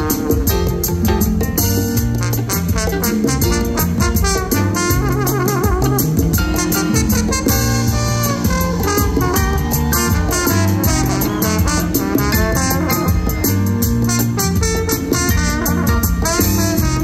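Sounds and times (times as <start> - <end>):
trombone lead line: 0.0 - 1.1, 2.0 - 17.0
live brass band playing: 0.0 - 17.0
steady drum beat: 0.0 - 17.0.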